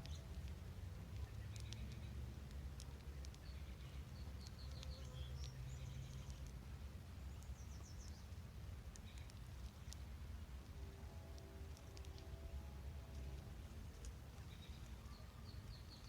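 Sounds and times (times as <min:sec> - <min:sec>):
faint songbird chirps: 0:00.0 - 0:16.0
low background rumble: 0:00.0 - 0:16.0.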